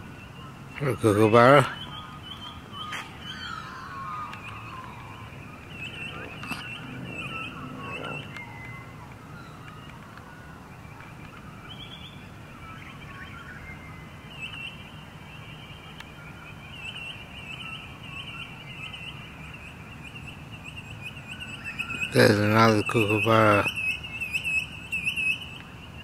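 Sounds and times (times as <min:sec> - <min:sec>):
distant birds calling: 0:00.0 - 0:26.0
steady low background noise: 0:00.0 - 0:26.0.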